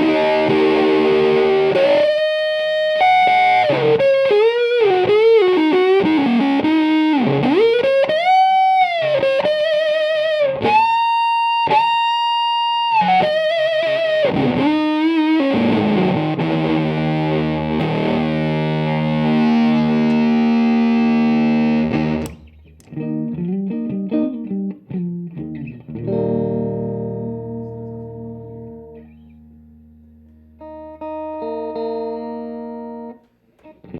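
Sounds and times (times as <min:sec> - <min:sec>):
fuzz electric guitar: 0:00.0 - 0:33.9.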